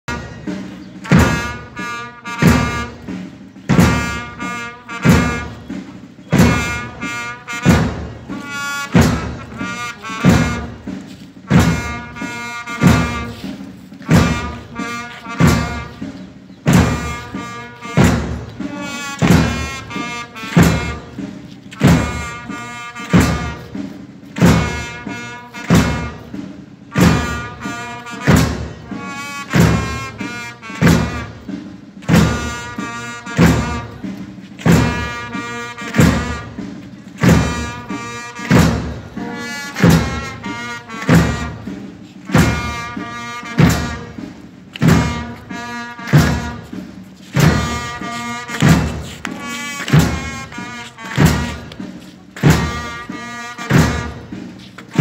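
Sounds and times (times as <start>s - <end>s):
wind instruments melody: 0.0s - 55.0s.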